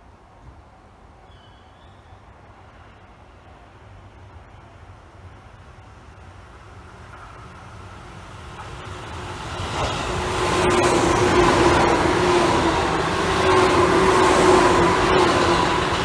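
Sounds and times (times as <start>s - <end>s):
train wheels rumbling: 2.3s - 16.0s.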